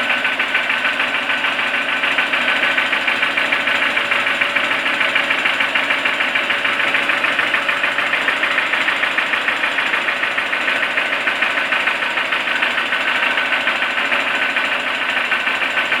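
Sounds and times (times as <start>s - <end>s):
engine idling with knock: 0.0s - 16.0s.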